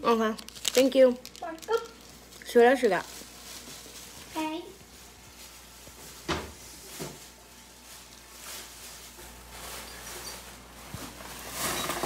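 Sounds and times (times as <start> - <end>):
plastic bag rustling: 0.2 - 12.0.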